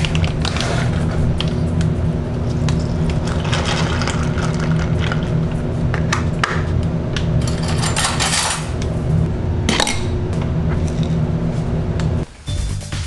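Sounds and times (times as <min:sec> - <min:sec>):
low hum: 0:00.0 - 0:12.3.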